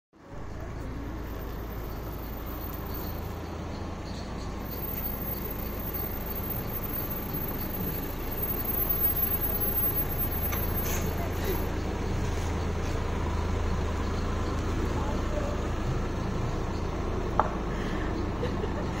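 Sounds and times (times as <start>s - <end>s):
suv engine running low: 0.2s - 19.0s.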